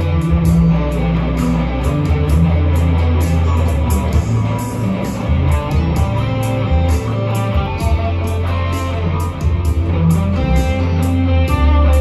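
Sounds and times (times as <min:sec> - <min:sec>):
steady ticking beat: 0:00.0 - 0:11.8
electric guitar lead: 0:00.0 - 0:12.0
sustained bass notes: 0:00.0 - 0:12.0.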